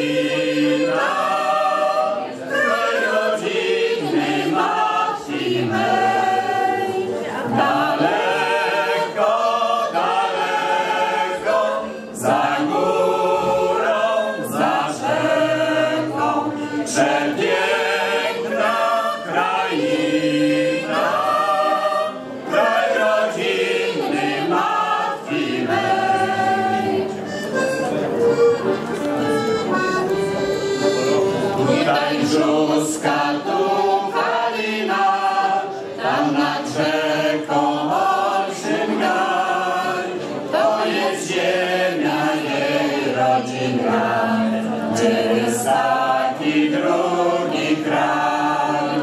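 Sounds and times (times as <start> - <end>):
accordion: 0.0 - 49.0
mixed choir singing folk song: 0.0 - 49.0.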